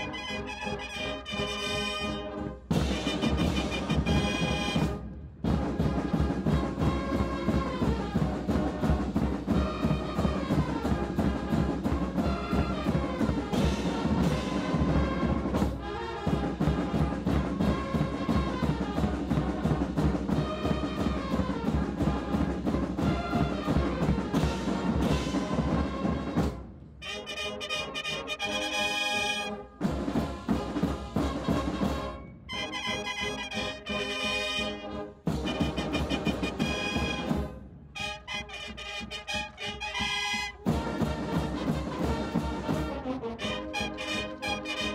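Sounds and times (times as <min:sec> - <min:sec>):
bass drum march beat: 0:00.0 - 0:44.9
brass band playing a march: 0:00.0 - 0:44.9.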